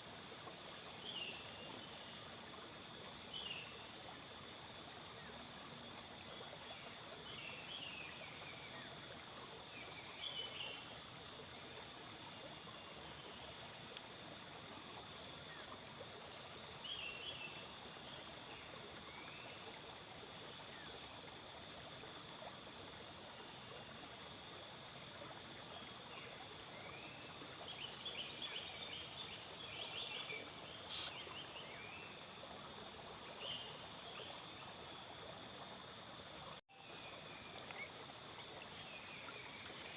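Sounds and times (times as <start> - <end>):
insects droning: 0.0 - 39.9
cricket-like chirping: 0.1 - 39.9.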